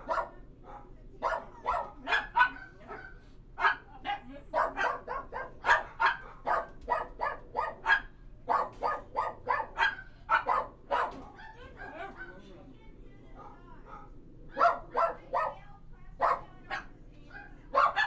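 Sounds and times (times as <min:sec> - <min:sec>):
dog barking: 0:00.0 - 0:11.4, 0:13.9 - 0:18.0.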